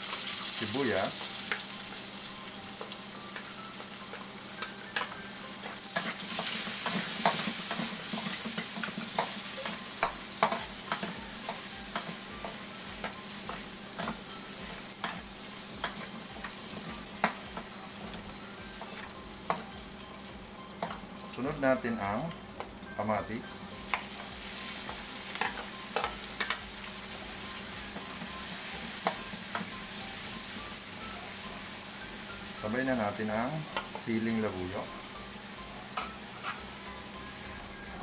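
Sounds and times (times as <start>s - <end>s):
onion and garlic sizzling in oil: 0.0s - 38.0s.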